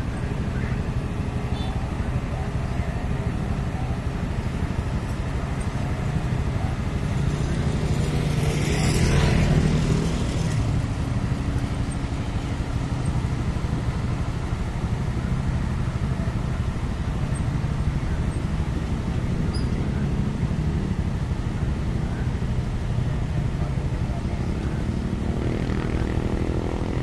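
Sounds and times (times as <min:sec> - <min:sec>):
road roller diesel engine: 0:00.0 - 0:27.0.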